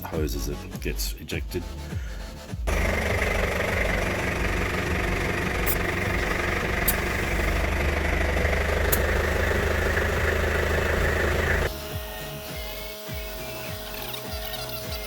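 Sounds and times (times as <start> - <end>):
air compressor running: 2.7 - 15.0.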